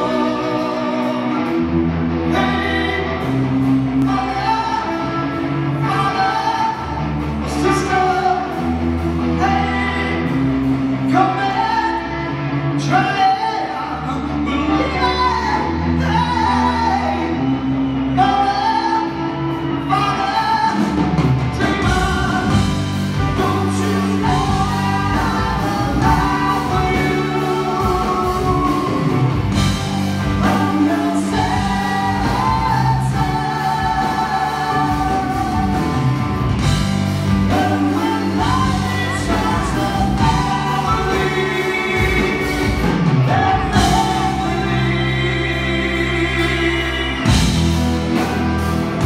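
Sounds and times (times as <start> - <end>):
man singing into microphone: 0.0 - 10.4, 11.0 - 36.2, 37.3 - 47.6
drums: 0.0 - 49.0
live rock band playing: 0.0 - 49.0.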